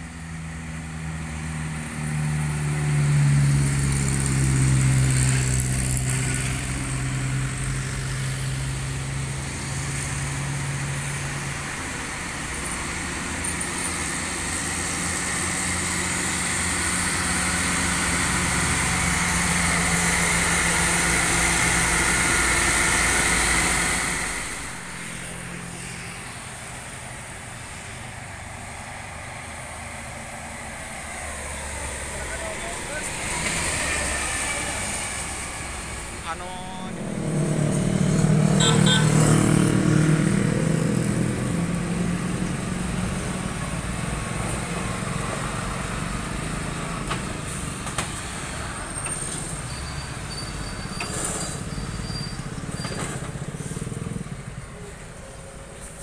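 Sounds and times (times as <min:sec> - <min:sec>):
diesel truck engines droning: 0:00.0 - 0:56.0
distant traffic: 0:00.0 - 0:56.0
tyres hissing and whining: 0:03.6 - 0:56.0.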